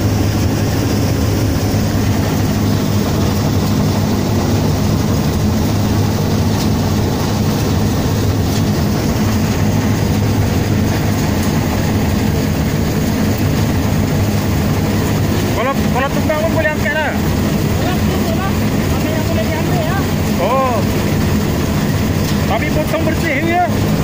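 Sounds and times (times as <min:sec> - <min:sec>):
combine harvester droning: 0:00.0 - 0:24.0.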